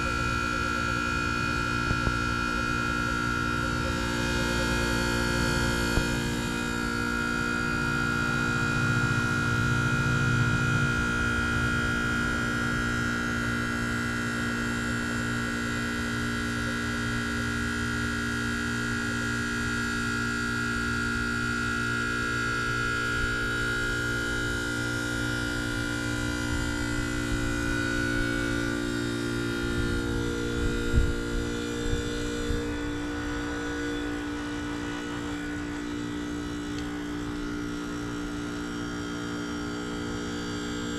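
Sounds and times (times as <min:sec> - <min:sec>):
heat pump compressor hum: 0:00.0 - 0:40.9
high siren-like whine: 0:00.0 - 0:40.9.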